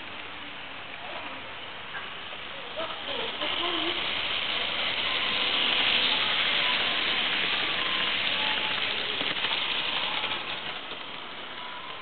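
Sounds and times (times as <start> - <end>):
model train wheels hissing on rails: 0.0 - 12.0.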